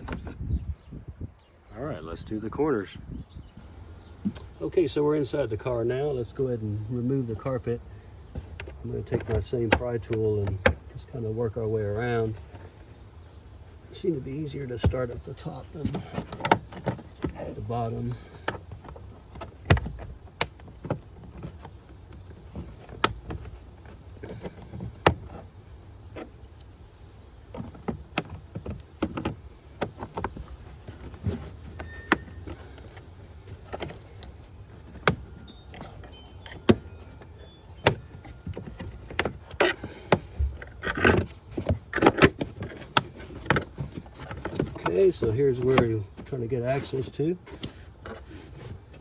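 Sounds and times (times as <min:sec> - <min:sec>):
rustling: 0:03.6 - 0:49.0.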